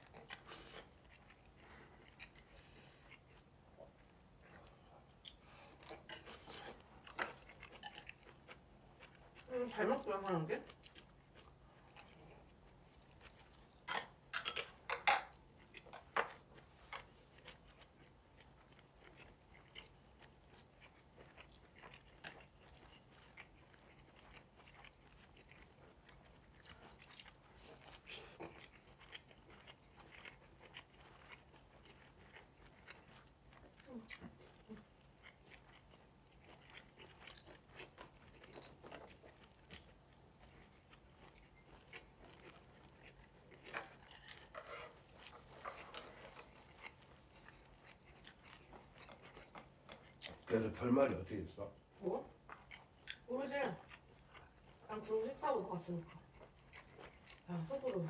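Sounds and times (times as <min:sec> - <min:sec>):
chewing food: 0:00.0 - 0:58.0.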